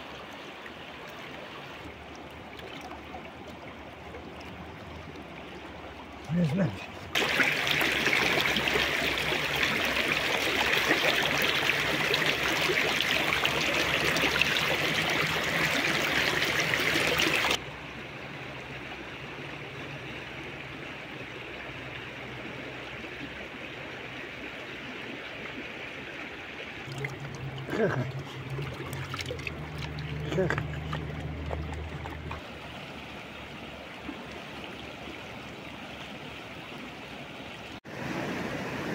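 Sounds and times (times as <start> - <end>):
stream rippling over rocks: 0.0 - 38.9.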